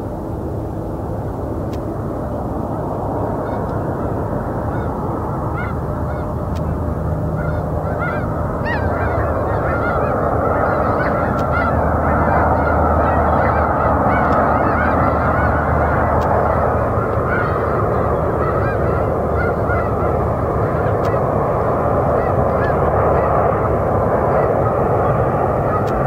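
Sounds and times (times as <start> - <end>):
geese honking: 3.3 - 26.0.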